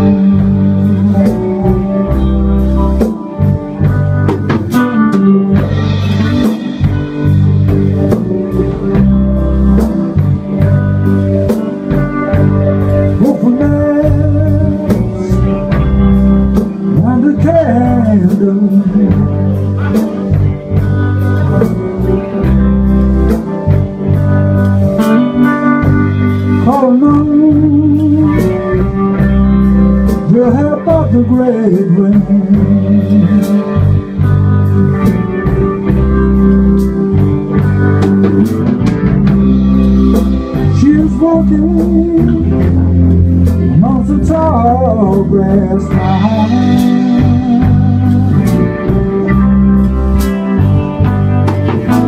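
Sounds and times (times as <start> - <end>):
drum kit beat: 0.0 - 52.0
electric guitar: 0.0 - 52.0.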